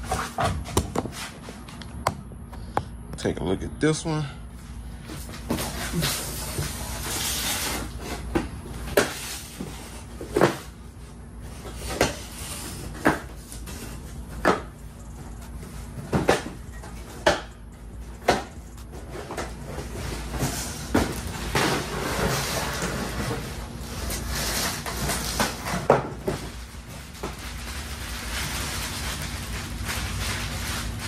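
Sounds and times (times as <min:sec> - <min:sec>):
cardboard rustling and scraping: 0:00.0 - 0:01.8, 0:05.1 - 0:31.0.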